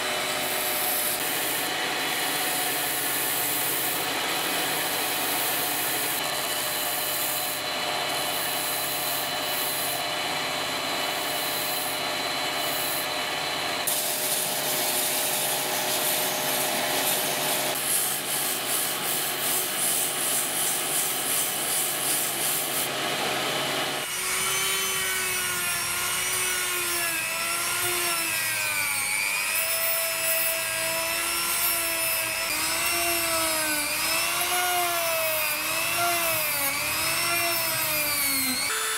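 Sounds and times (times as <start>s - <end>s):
belt grinder sanding wood: 0.0s - 13.2s, 13.8s - 23.0s, 24.0s - 38.9s
rotary tool sanding wood: 0.0s - 38.9s.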